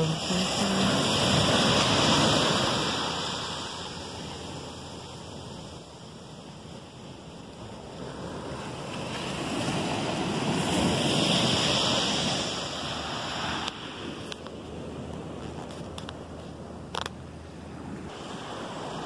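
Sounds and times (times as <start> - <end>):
wave surging on beach: 0.0 - 17.1, 17.7 - 19.0.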